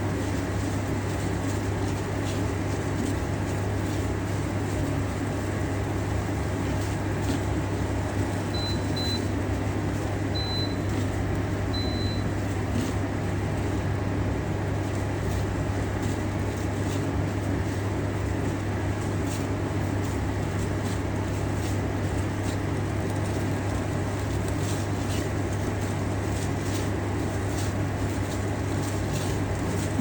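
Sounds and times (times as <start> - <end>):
kitchen appliance humming: 0.0 - 30.0.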